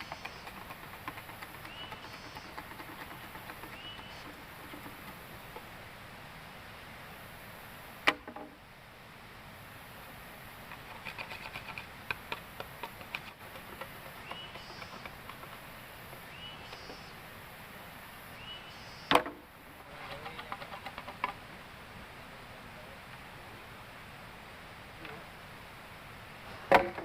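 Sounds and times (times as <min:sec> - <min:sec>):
faint high hiss: 0:00.0 - 0:27.0.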